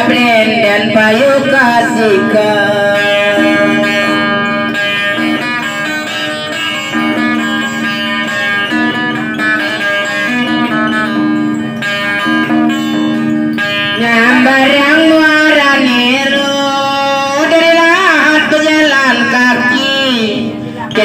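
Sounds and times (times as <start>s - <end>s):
person singing: 0.0s - 11.2s, 13.7s - 21.0s
acoustic guitar through amplifier: 0.0s - 21.0s.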